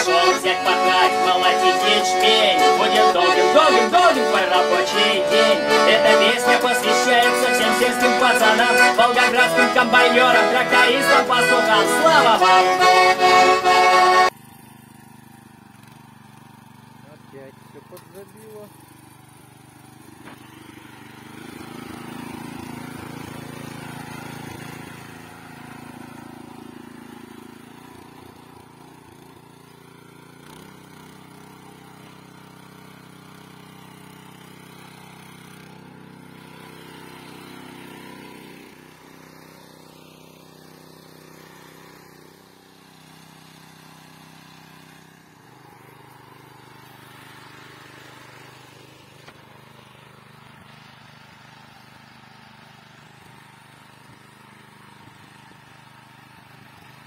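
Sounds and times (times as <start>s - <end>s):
garden tiller engine running: 0.0s - 57.0s.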